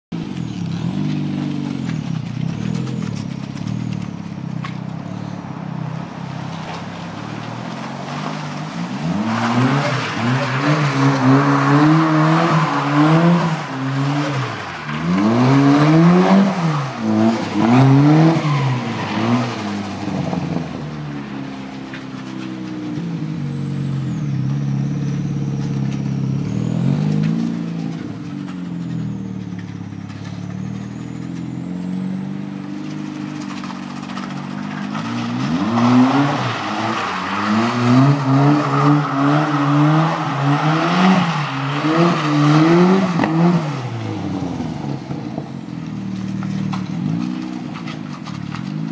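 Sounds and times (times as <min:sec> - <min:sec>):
turbo car engine revving: 0:00.1 - 0:48.9.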